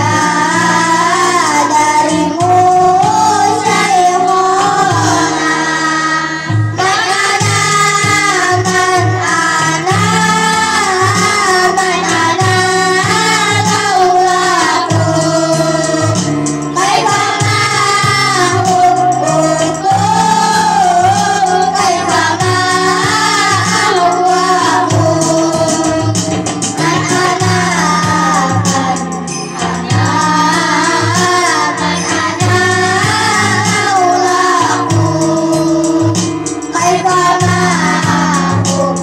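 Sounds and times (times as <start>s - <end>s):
children singing into microphones: 0.0s - 39.0s
instrumental accompaniment: 0.0s - 39.0s.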